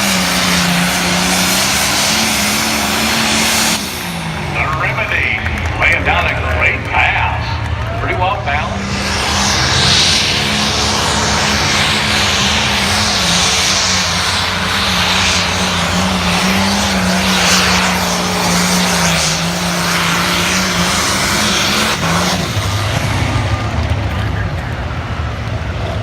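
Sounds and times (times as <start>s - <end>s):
tractor diesel engine roaring: 0.0s - 26.0s.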